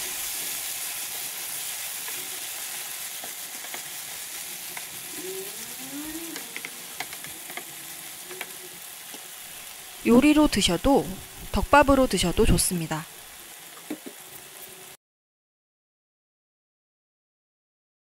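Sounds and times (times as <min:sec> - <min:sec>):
stir-fry sizzling in frying pan: 0:00.0 - 0:15.0.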